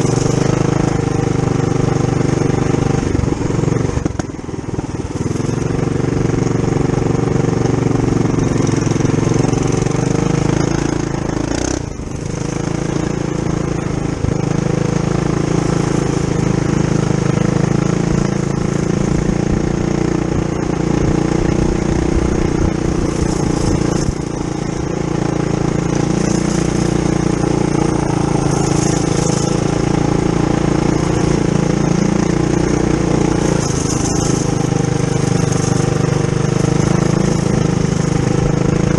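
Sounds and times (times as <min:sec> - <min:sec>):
mini bike engine running: 0:00.0 - 0:38.9.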